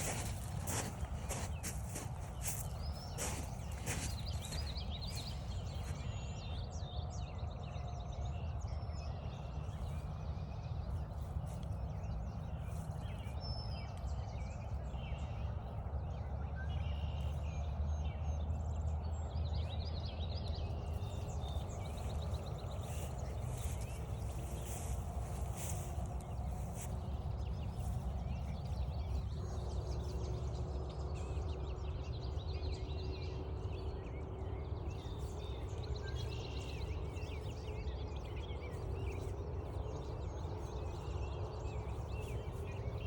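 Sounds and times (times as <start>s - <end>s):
songbirds singing: 0.0s - 43.0s.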